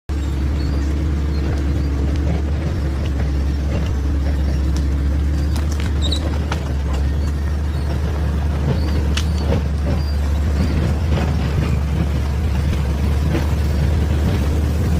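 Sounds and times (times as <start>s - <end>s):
diesel engine rumbling under load: 0.1s - 14.9s.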